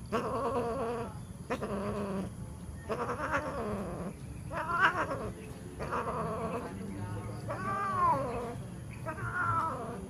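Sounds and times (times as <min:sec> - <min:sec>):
cat yowling: 0:00.1 - 0:02.3, 0:02.9 - 0:06.6, 0:07.5 - 0:10.0.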